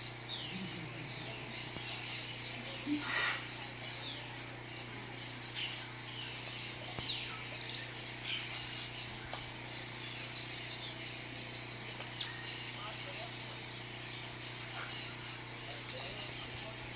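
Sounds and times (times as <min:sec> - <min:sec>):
birds chirping and whistling: 0:00.0 - 0:16.9
constant low hum: 0:00.0 - 0:16.9
insects buzzing: 0:00.0 - 0:16.9.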